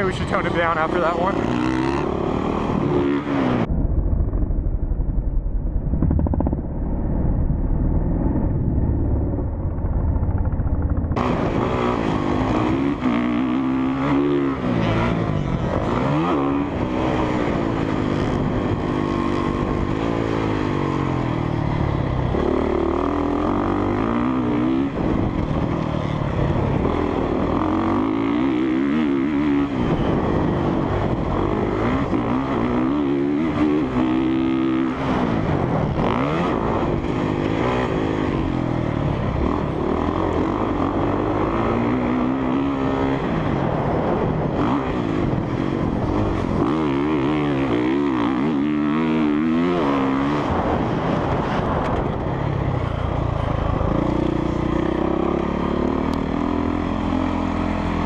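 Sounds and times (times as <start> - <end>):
dirt bike engine revving: 0.0 - 3.7, 11.2 - 58.0.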